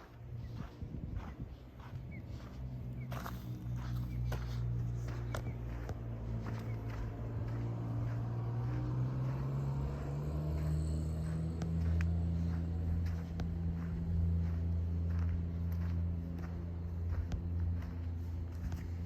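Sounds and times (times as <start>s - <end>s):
footsteps: 0.0s - 19.0s.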